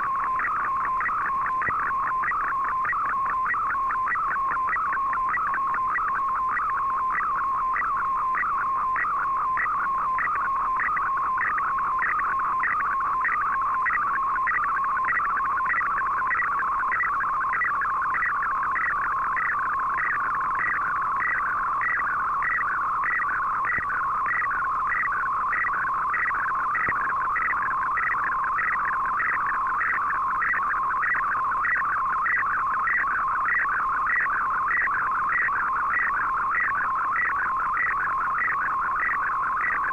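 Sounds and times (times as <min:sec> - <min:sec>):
faint radio hiss: 0:00.0 - 0:39.9
warbling chirping data tone: 0:00.0 - 0:39.9.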